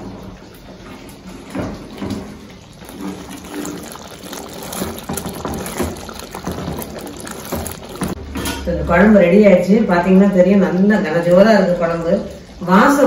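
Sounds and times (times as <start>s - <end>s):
gravy boiling and bubbling: 0.0s - 13.0s.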